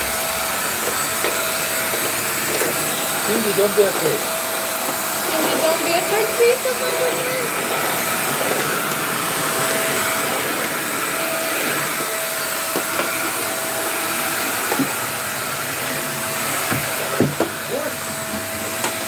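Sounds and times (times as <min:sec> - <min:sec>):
vacuum cleaner whining: 0:00.0 - 0:19.0.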